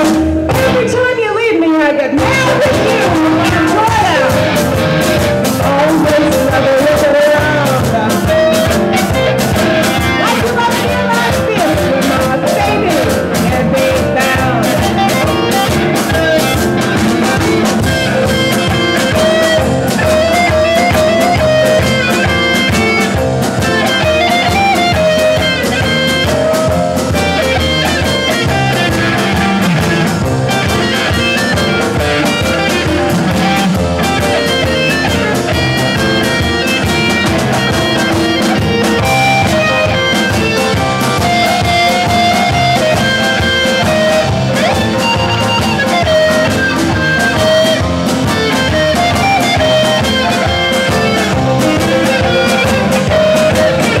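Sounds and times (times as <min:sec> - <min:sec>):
live blues band playing: 0:00.0 - 0:54.0.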